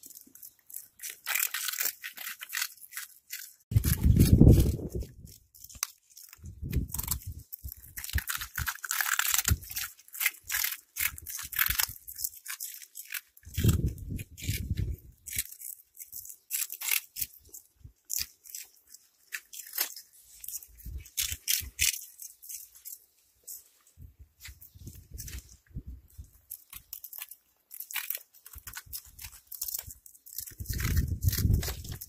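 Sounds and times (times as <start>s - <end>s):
cats chewing crunchy snacks: 0.0s - 23.8s, 24.5s - 32.0s.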